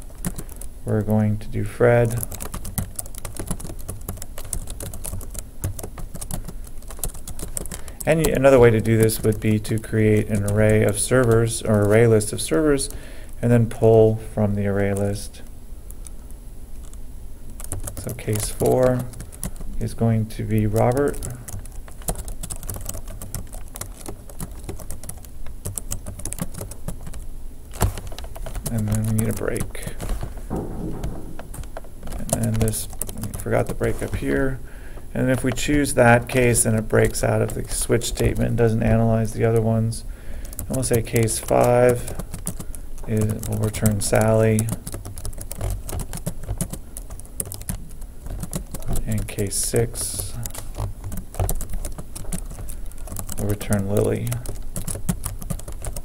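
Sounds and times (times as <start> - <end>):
computer keyboard typing: 0.0 - 0.7, 2.0 - 12.2, 17.6 - 20.0, 20.6 - 34.2, 35.2 - 39.8, 40.4 - 56.0.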